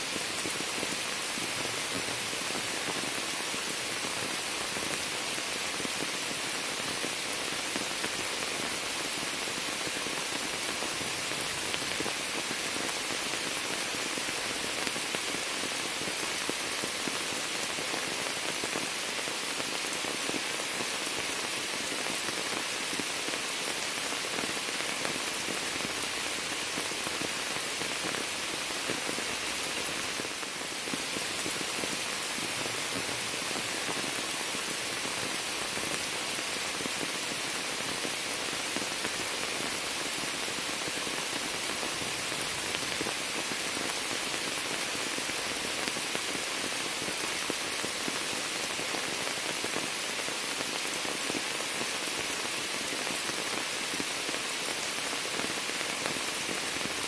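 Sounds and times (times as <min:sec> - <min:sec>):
rain falling on water and leaves: 0:00.0 - 0:57.0.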